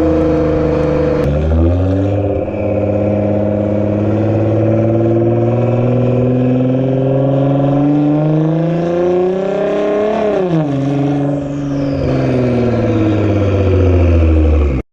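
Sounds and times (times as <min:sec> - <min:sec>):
sports car engine revving: 0:00.0 - 0:14.8.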